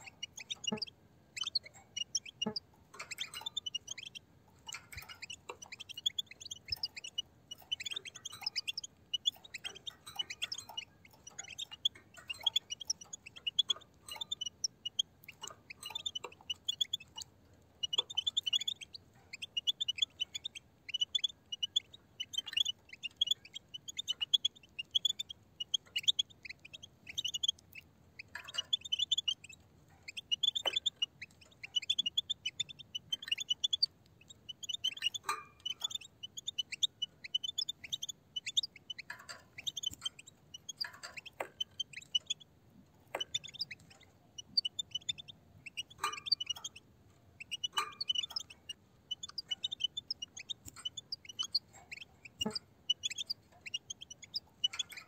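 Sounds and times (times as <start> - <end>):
goldfinches twittering: 0.0 - 17.2, 17.8 - 42.4, 43.1 - 46.8, 47.4 - 55.0.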